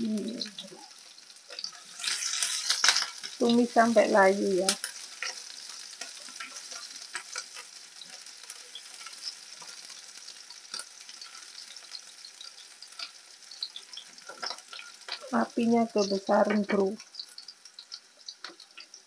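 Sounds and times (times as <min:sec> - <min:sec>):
frying sizzle with crackles: 0:00.0 - 0:19.0.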